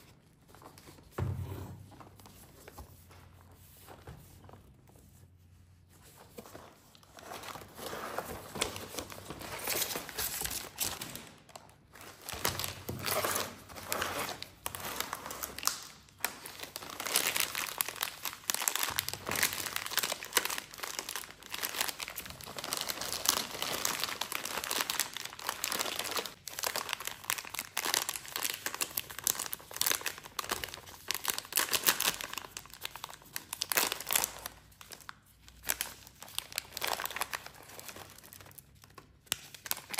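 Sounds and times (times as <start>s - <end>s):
plastic wrappers crinkling: 6.3s - 39.9s.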